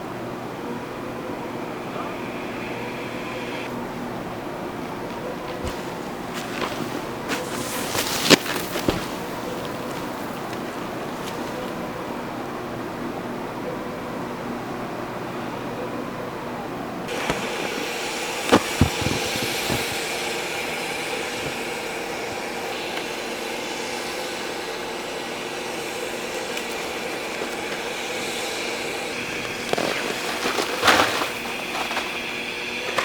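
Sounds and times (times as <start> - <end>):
steady hum with fixed tones: 0.0 - 33.0.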